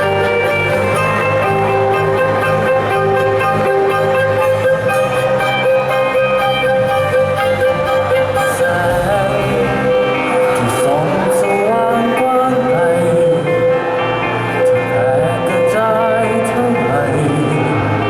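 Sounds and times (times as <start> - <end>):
band playing held notes: 0.0 - 18.0
person singing: 0.0 - 18.0.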